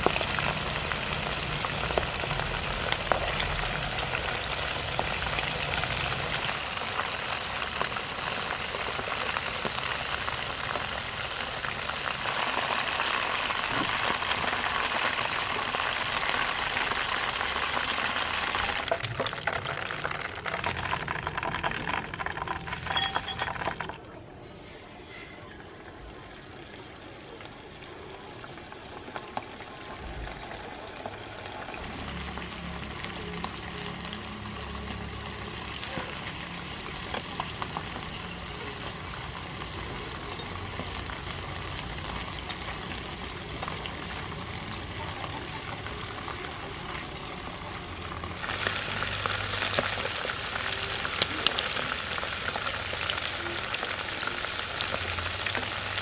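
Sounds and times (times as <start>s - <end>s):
deep-frying sizzle with crackles: 0.0s - 24.1s, 25.5s - 56.0s.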